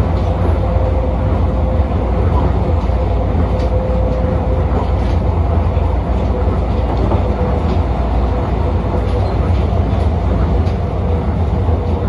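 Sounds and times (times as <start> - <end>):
train deep rumble: 0.0 - 12.0.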